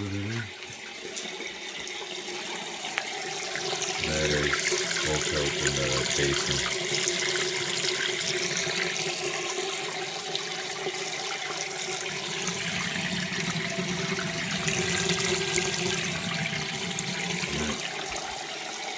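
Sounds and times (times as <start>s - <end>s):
faint steady pump hum: 0.0s - 18.9s
water rushing and churning: 0.0s - 18.9s.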